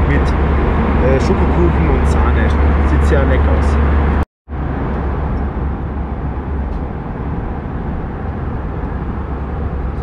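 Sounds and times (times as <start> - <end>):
jet cabin noise: 0.0 - 10.0.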